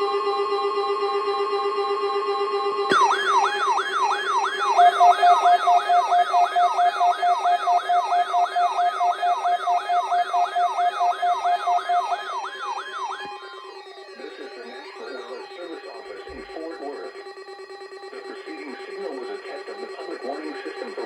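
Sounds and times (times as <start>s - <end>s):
electronic siren yelp: 0.0s - 21.0s.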